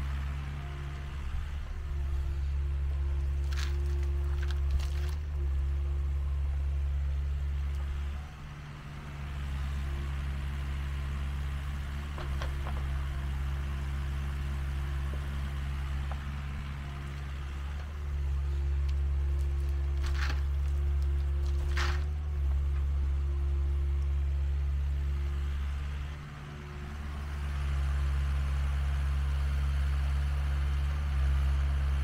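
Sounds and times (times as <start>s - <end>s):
excavator diesel engine droning: 0.0s - 32.0s.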